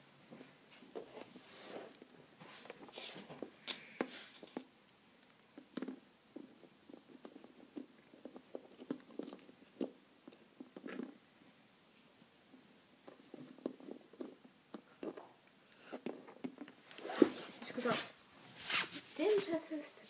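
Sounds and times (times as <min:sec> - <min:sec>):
soft rustling: 0:00.2 - 0:20.0.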